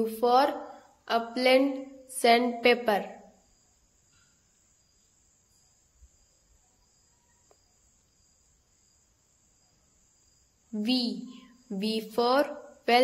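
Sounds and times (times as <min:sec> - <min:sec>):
faint high-pitched hiss: 0:00.0 - 0:13.0.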